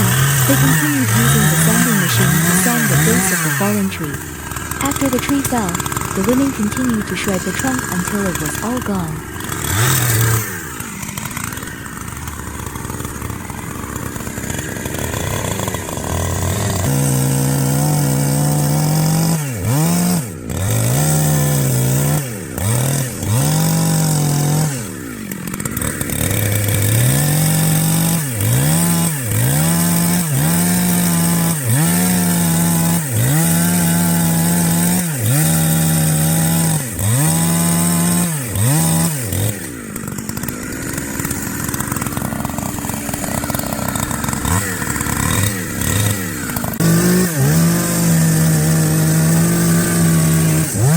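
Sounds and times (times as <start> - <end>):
chainsaw engine revving: 0.0 - 50.9.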